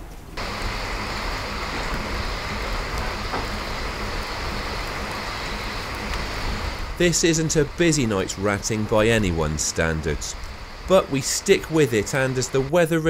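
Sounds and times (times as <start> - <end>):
heavy rain on a roof: 0.0 - 12.7.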